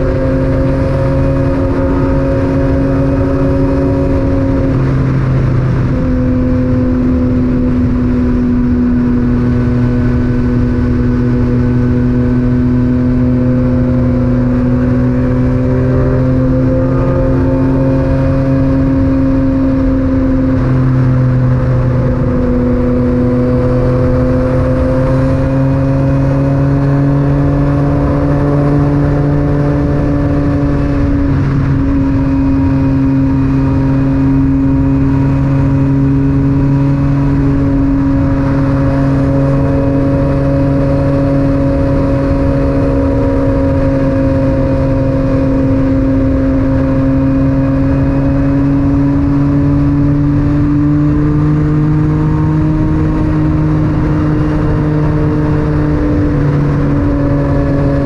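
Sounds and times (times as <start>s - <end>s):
motorcycle engine riding: 0.0s - 58.0s.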